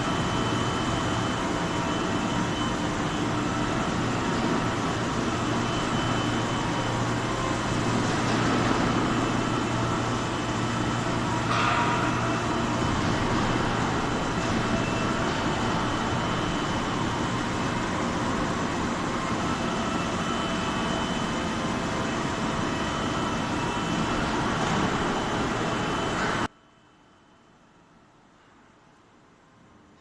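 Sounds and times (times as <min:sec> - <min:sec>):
whining machine tones: 0:00.0 - 0:26.5
factory machine hum and din: 0:00.0 - 0:30.0.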